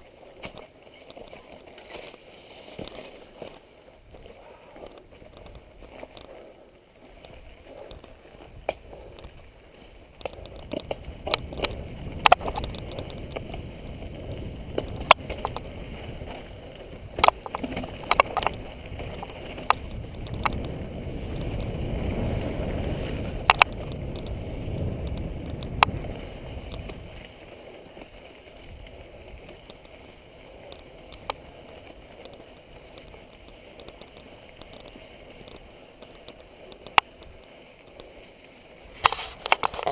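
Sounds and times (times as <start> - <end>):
bike clacking over rocks: 0.0 - 37.4
bike tyres rumbling on dirt: 0.0 - 39.9.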